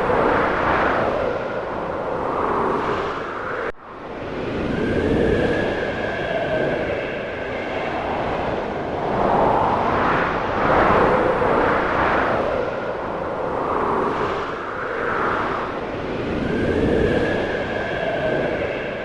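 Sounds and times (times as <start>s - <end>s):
wind howling in gusts: 0.0s - 19.0s.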